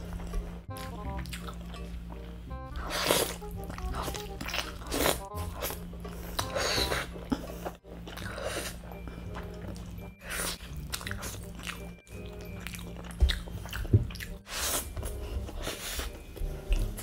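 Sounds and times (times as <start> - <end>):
background music: 0.0 - 17.0
man chewing and biting: 0.0 - 17.0.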